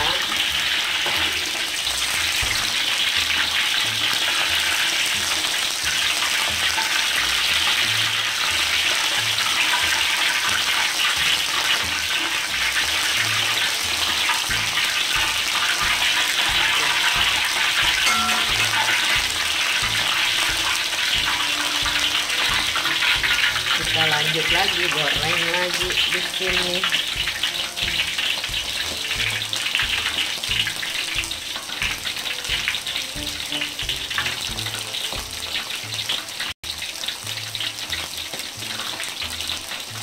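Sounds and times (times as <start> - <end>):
chicken deep-frying in oil: 0.0 - 40.0.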